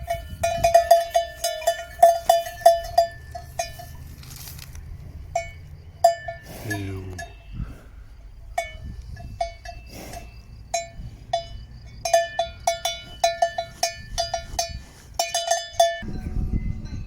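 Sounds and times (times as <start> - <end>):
cowbell clanking: 0.0 - 4.2, 5.3 - 7.7, 8.3 - 17.0.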